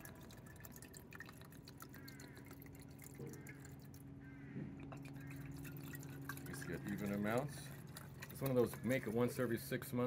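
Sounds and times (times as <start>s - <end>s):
liquid pouring into glass jar: 0.0s - 4.1s, 4.8s - 9.7s
faint steady low hum: 0.0s - 10.0s.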